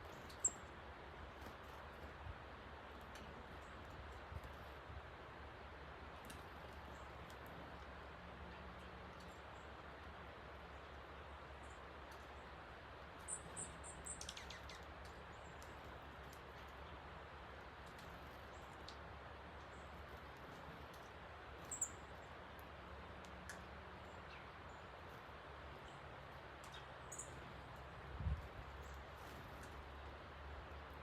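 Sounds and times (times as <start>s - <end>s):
small birds chirping: 0.0s - 4.8s, 6.0s - 31.0s.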